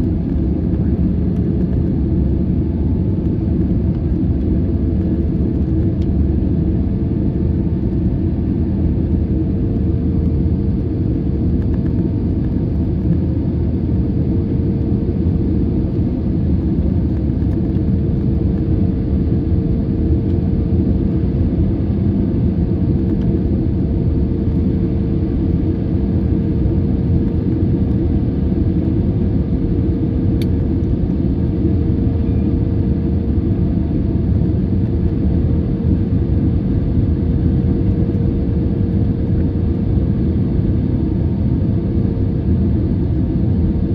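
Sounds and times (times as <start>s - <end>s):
jet engine rumble: 0.0s - 43.9s.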